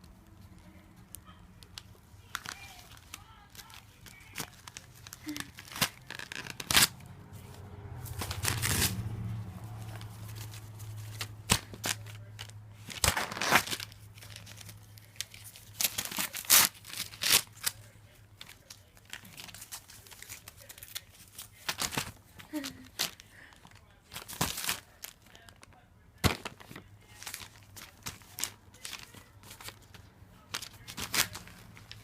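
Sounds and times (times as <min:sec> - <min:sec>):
paper crinkling and rustling: 0:00.0 - 0:32.0.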